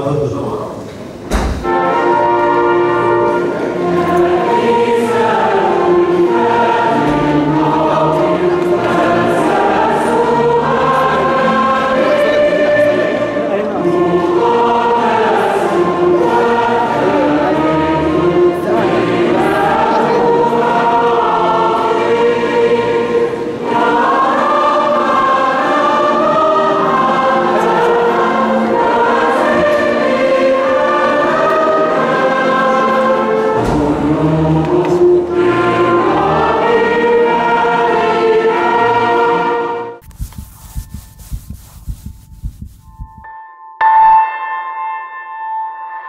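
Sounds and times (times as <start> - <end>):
mixed choir singing: 1.6 - 40.0
symphony orchestra: 1.6 - 40.0.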